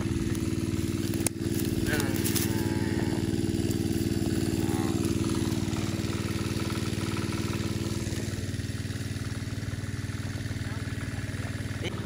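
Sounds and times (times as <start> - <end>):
small water pump engine running: 0.0 - 12.0.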